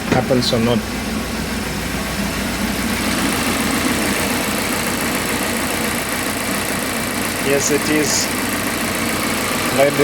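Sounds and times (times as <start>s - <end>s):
car engine rough idle: 0.0s - 10.0s.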